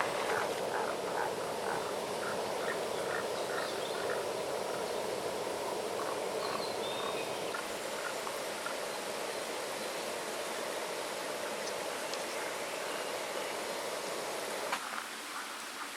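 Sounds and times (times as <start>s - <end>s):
stream running: 0.0s - 15.9s.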